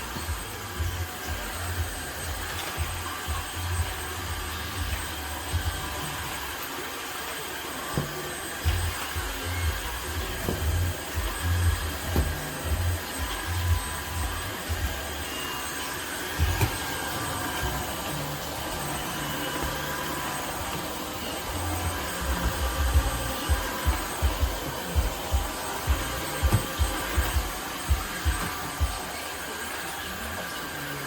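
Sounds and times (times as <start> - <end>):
vacuum cleaner whirring: 0.0 - 31.0.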